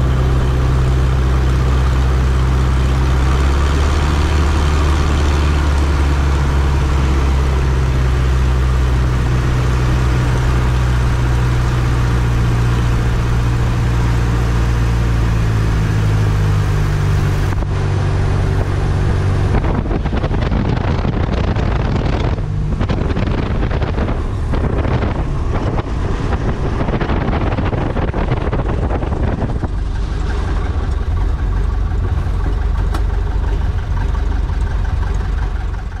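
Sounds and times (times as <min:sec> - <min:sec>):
small plane engine: 0:00.0 - 0:36.0
tires rumbling over gravel: 0:00.0 - 0:36.0.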